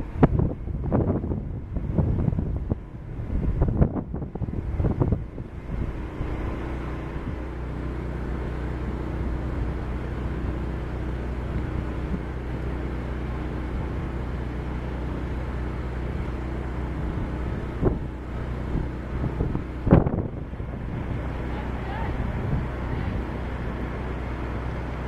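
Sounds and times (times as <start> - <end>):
ship engine humming: 0.0 - 25.0.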